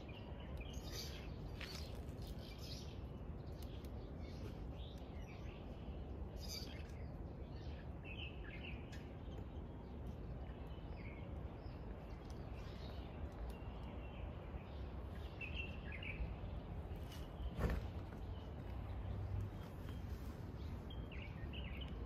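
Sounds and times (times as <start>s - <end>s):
low outdoor background noise: 0.0s - 22.0s
small birds chirping: 0.0s - 22.0s.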